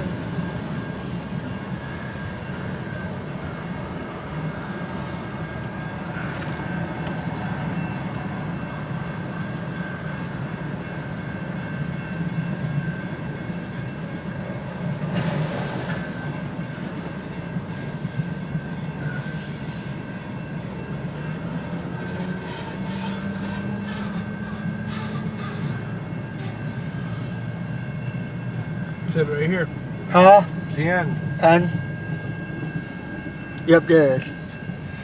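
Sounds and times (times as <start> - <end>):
train wheels clicking on rail joints: 0.0 - 28.9
train rumble: 0.0 - 35.0.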